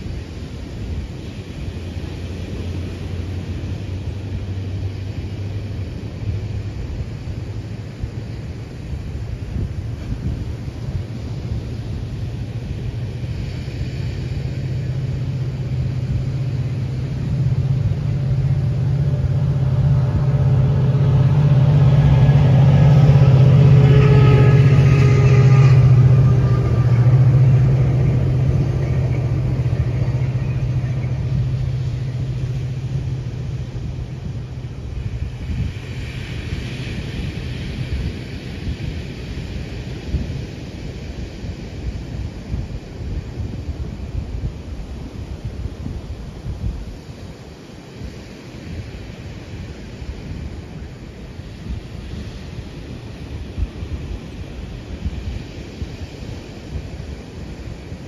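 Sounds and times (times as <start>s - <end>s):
large vehicle engine hum: 0.0s - 58.0s.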